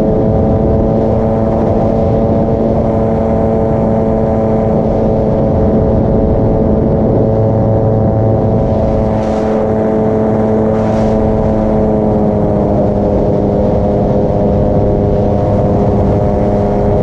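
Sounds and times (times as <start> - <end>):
paramotor engine and propeller: 0.0 - 17.0.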